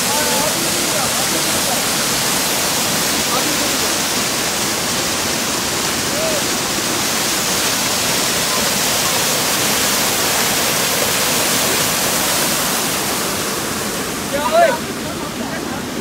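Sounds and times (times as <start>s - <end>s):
waterfall splashing over rocks: 0.0s - 16.0s.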